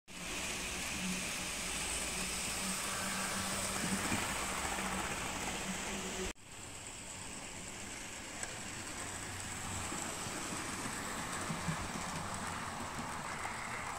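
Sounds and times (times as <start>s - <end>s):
wheels rushing on rails: 0.1s - 13.9s.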